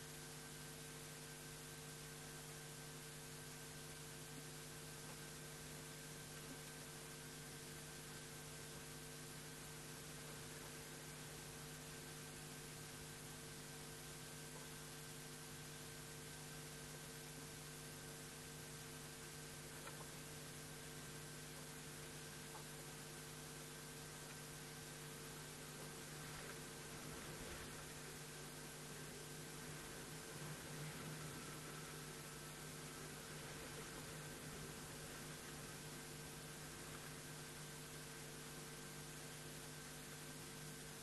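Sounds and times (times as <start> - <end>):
constant hiss: 0.0 - 41.0
faint electrical hum: 0.0 - 41.0.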